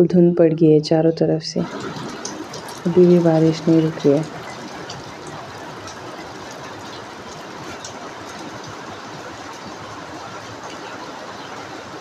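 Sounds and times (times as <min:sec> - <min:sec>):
drips ticking: 0:01.6 - 0:11.5
heavy rain falling: 0:01.6 - 0:12.0.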